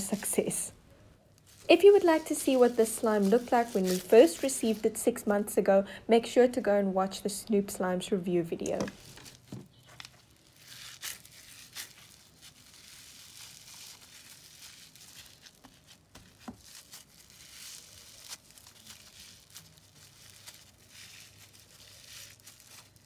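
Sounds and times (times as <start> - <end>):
slime beads crackling: 0.0 - 5.6, 8.6 - 23.0.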